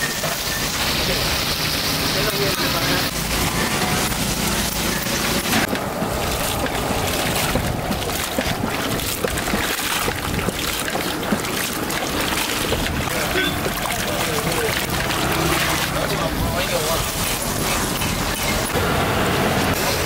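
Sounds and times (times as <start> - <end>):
water sloshing in a metal basin: 2.0 - 20.0.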